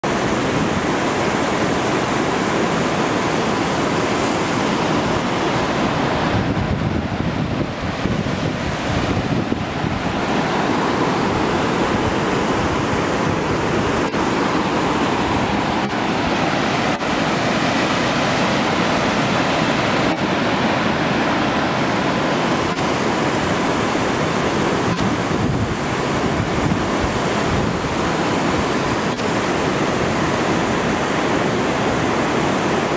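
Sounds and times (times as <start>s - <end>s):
waterfall rushing over rocks: 0.0s - 32.9s.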